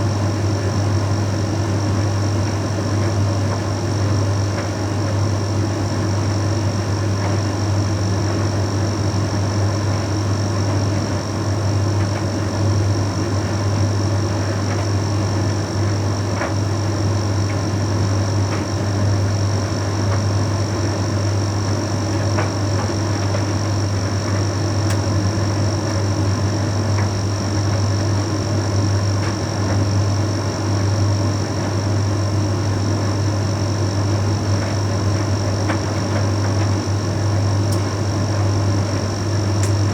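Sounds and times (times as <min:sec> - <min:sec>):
tumble dryer running: 0:00.0 - 0:39.9.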